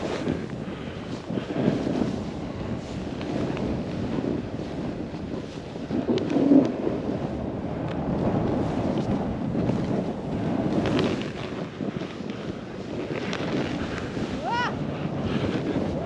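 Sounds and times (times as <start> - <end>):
snowboard sliding through powder: 0.0 - 16.0
wind rushing over microphone: 0.0 - 16.0.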